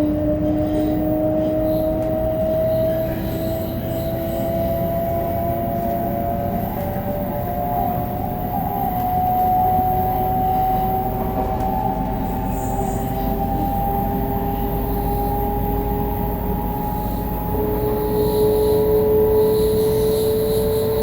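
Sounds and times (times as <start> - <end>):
train motors whining: 0.0 - 21.0
wheels rumbling on track: 0.0 - 21.0.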